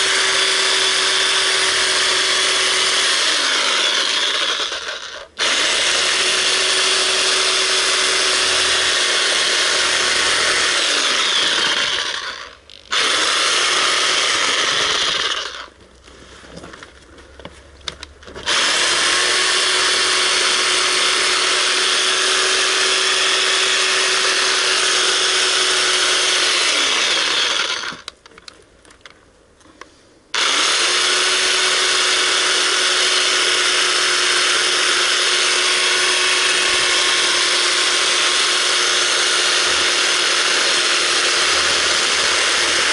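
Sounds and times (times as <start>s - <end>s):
reciprocating saw cutting: 0.0s - 15.7s, 18.4s - 28.1s, 30.3s - 42.9s.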